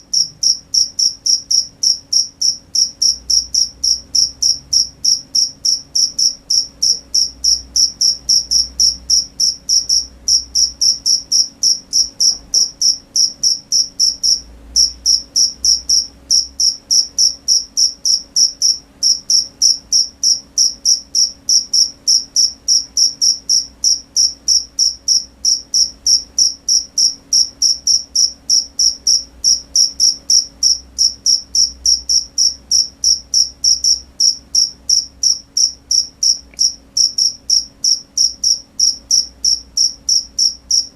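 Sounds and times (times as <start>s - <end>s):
crickets chirping: 0.0s - 40.9s
faint low hum: 0.0s - 40.9s.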